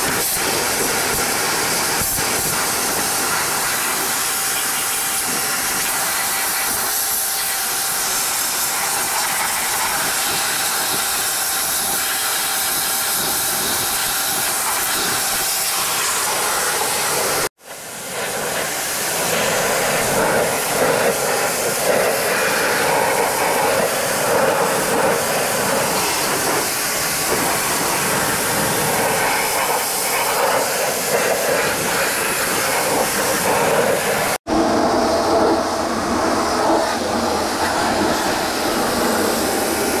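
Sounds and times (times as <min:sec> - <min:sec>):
pressure washer jet spraying metal: 0:00.0 - 0:40.0.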